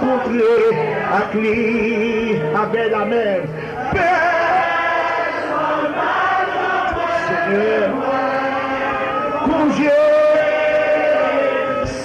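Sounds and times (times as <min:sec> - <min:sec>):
congregation singing a chant: 0:00.0 - 0:12.0.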